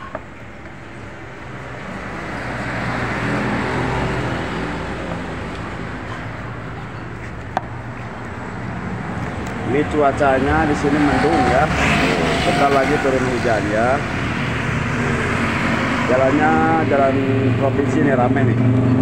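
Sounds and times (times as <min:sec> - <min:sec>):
vehicle passing on road: 0:00.2 - 0:19.0.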